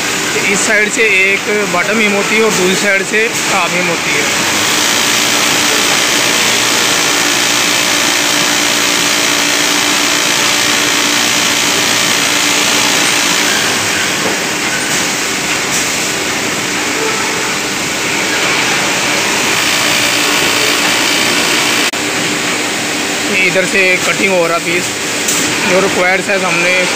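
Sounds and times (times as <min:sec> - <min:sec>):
industrial sewing machine running: 0:00.0 - 0:26.9.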